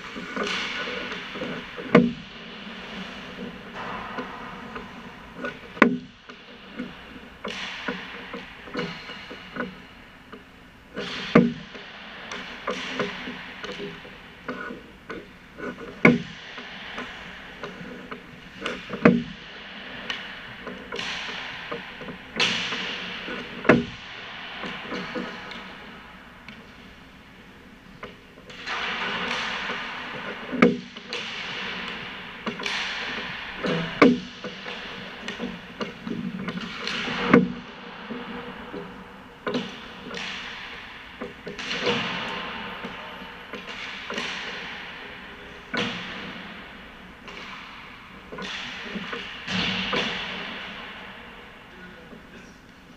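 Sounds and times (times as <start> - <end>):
hockey sticks slapping pucks: 0.0 - 52.9.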